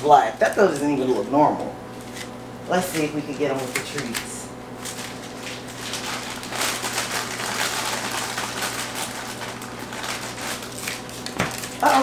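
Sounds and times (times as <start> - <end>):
plastic bag crinkling: 0.0 - 2.3, 2.9 - 12.0.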